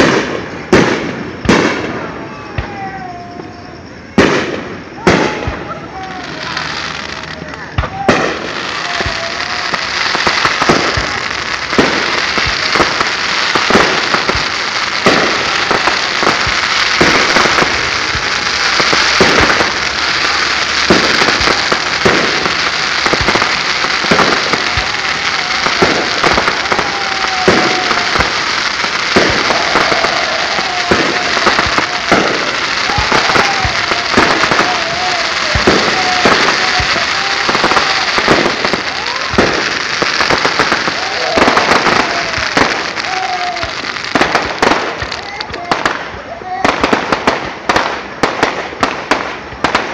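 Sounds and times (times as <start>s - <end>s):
constant hiss: 0.0s - 49.9s
fireworks bangs: 0.0s - 49.9s.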